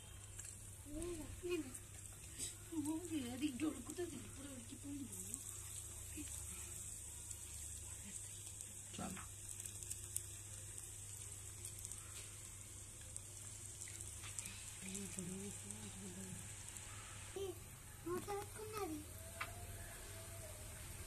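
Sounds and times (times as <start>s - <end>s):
fries sizzling in hot oil: 0.0s - 21.0s.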